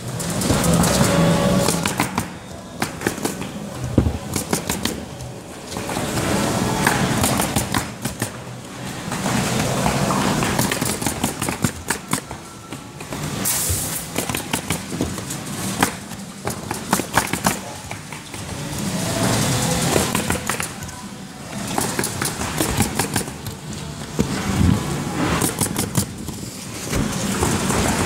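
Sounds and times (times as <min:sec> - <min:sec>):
pneumatic nailers firing: 0:00.0 - 0:05.1, 0:05.7 - 0:08.5, 0:09.1 - 0:21.0, 0:21.6 - 0:23.6, 0:24.2 - 0:28.0.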